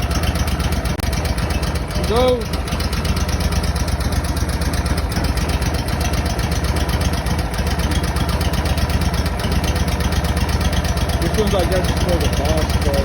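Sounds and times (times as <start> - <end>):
engine idling with low pulse: 0.0 - 13.0.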